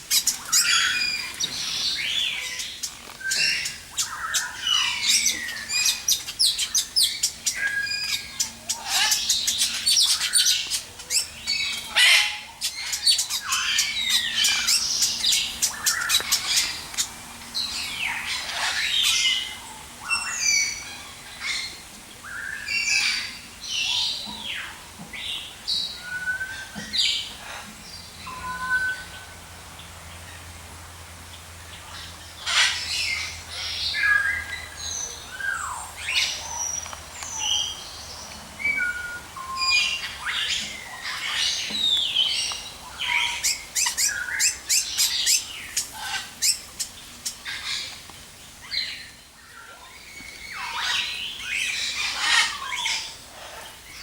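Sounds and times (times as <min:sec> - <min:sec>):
aviary birds chirping and squawking: 0:00.0 - 0:54.0.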